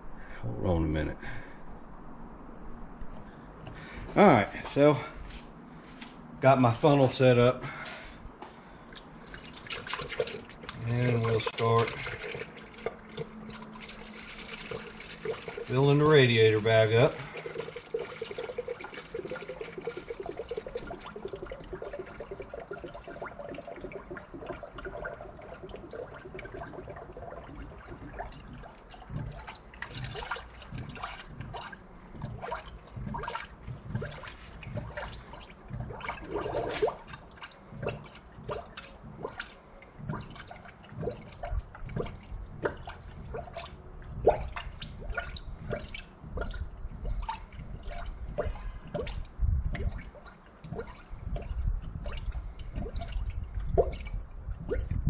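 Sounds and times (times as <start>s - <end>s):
gurgling and dripping splashes: 1.2s - 55.0s
liquid trickling into funnel: 3.1s - 55.0s.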